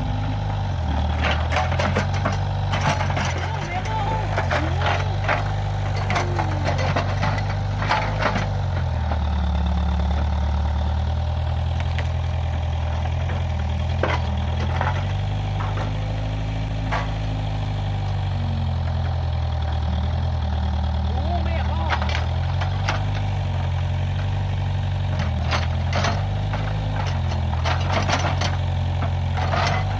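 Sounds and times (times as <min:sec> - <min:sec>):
backhoe engine running: 0:00.0 - 0:29.9.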